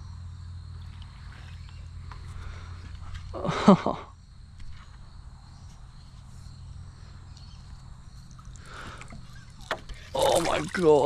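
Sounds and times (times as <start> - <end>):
faint insect drone: 0.0 - 11.0.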